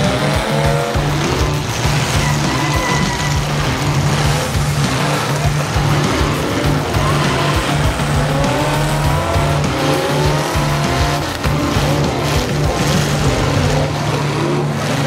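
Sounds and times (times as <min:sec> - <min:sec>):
car engines revving: 0:00.0 - 0:15.0
tires squealing: 0:00.0 - 0:15.0.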